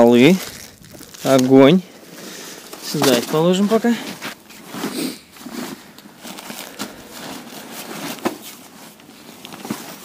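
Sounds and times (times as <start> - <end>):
tent fabric rustling: 0.1 - 10.0.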